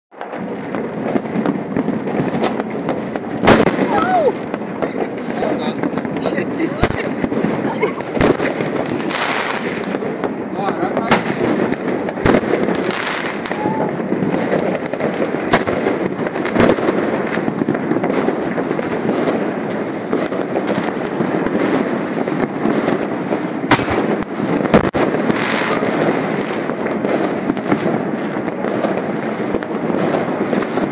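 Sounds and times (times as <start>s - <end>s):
fireworks crackling and popping: 0.1s - 30.9s
sharp firework bangs: 0.1s - 30.9s.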